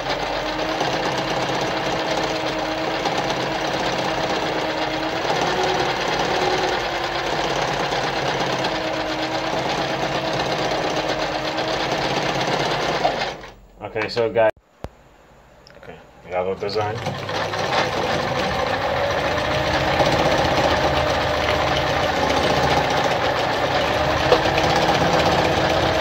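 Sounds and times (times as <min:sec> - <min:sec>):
sewing machine stitching: 0:00.0 - 0:13.6, 0:16.6 - 0:26.0.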